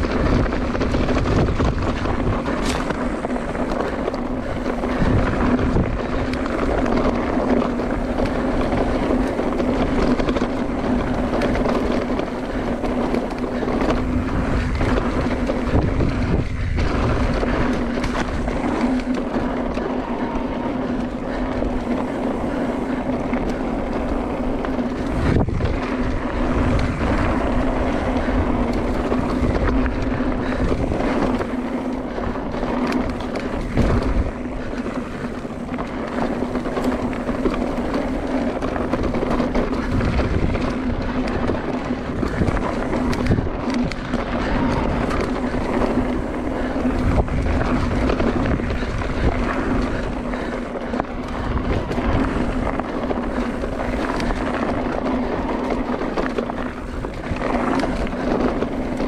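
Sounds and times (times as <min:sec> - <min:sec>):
tyres rolling on gravel: 0:00.0 - 0:59.0
wind buffeting microphone: 0:00.0 - 0:59.0.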